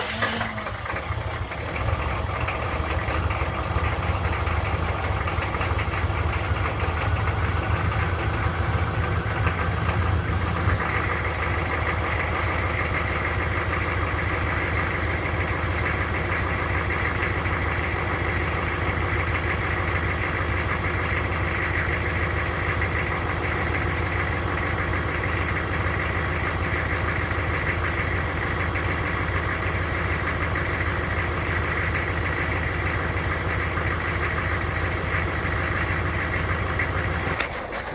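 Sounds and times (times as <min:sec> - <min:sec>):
diesel engine knocking clatter: 0:00.0 - 0:37.9.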